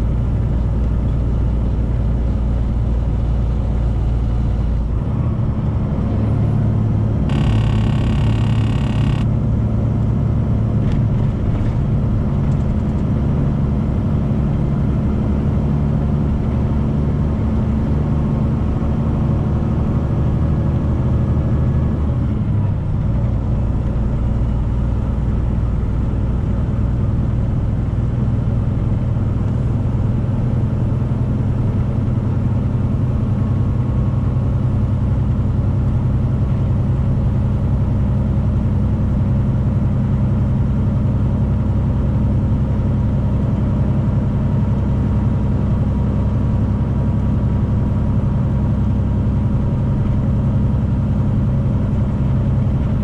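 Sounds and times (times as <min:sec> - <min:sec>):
road noise: 0:00.0 - 0:53.0
truck diesel engine drone: 0:00.0 - 0:53.0.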